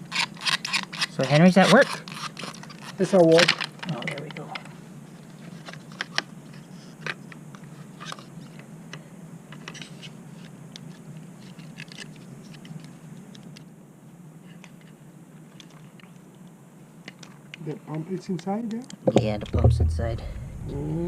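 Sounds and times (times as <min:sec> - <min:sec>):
steady low hum: 0:00.0 - 0:18.3, 0:19.0 - 0:21.0.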